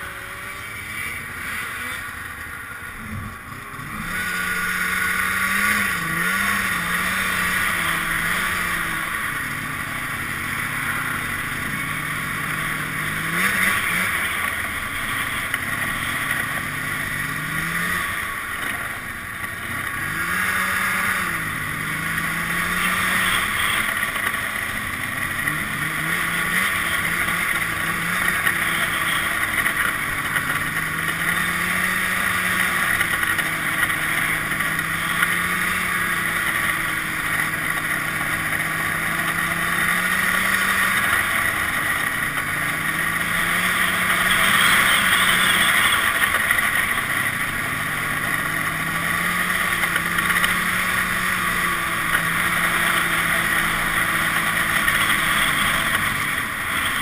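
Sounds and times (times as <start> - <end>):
snowmobile engine revving: 0.0 - 57.0
steady rushing noise: 0.0 - 57.0.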